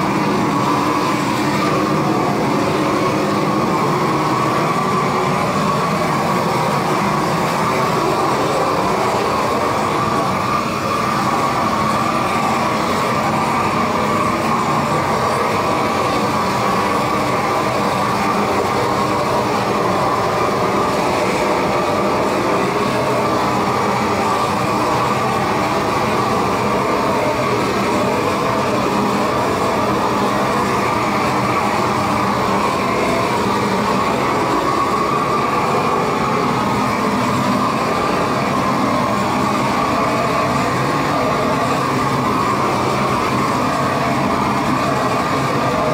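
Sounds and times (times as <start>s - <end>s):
gas torch hissing: 0.0s - 45.9s.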